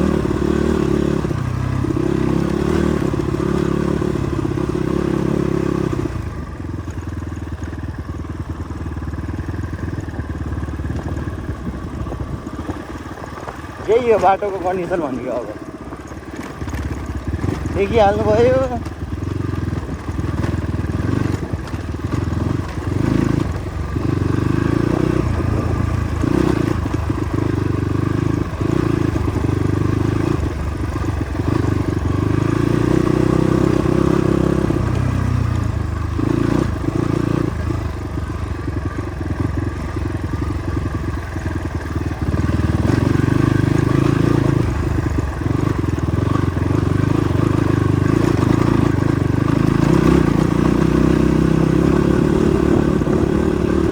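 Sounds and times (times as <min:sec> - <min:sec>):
motorcycle engine running: 0:00.0 - 0:53.9
motorcycle knocking and rattling: 0:00.2 - 0:53.9.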